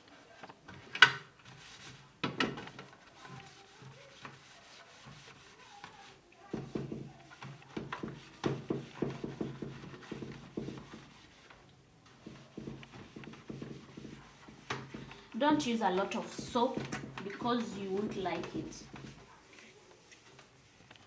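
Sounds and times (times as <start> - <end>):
sponge scrubbing inside fridge: 0.1 - 21.0.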